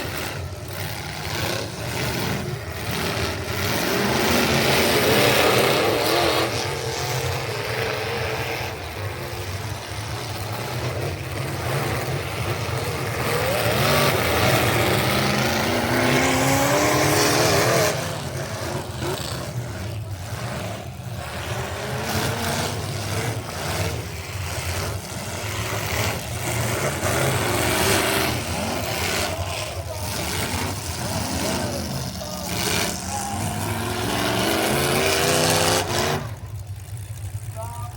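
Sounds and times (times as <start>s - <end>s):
truck engines revving: 0.0s - 37.9s.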